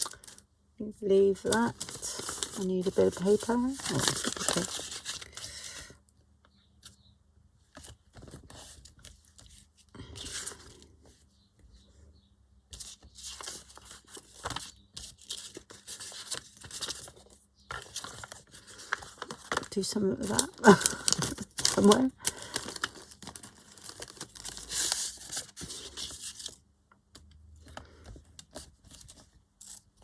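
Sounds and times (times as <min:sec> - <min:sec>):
paper rustling and crinkling: 0:01.2 - 0:05.9, 0:07.7 - 0:11.2, 0:12.7 - 0:26.6, 0:27.6 - 0:30.0.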